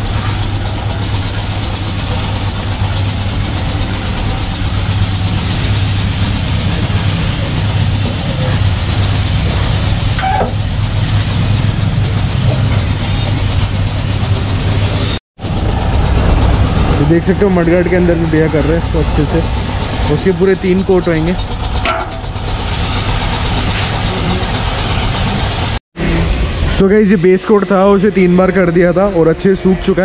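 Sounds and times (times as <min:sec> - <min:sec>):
air compressor humming: 0:00.0 - 0:25.8.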